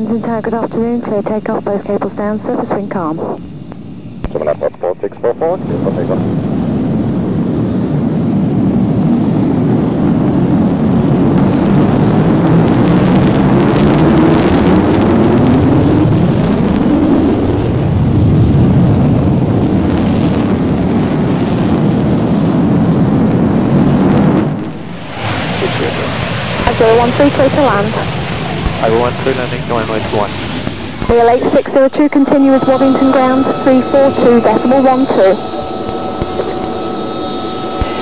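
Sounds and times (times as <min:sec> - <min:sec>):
jet engine roaring: 0:00.0 - 0:38.0.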